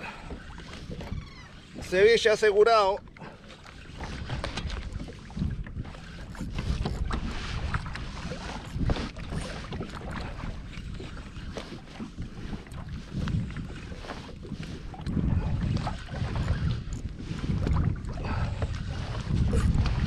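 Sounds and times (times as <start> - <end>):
water lapping against kayak: 0.0 - 20.0
wind on microphone: 0.0 - 20.0.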